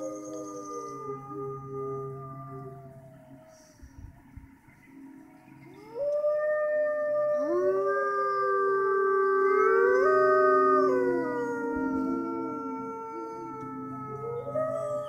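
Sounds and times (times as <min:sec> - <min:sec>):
wolves howling: 0:00.0 - 0:04.3, 0:05.0 - 0:15.0.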